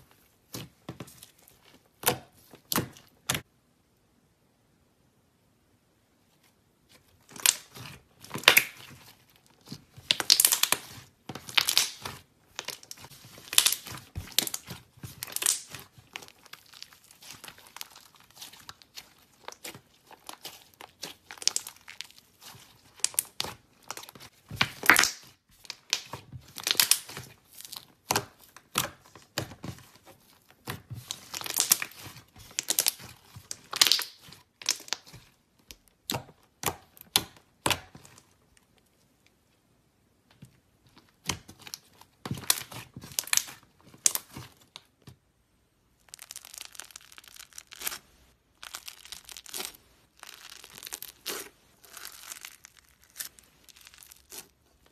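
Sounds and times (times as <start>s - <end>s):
slime crackling and popping: 7.2s - 38.3s, 41.0s - 44.9s, 45.9s - 54.9s.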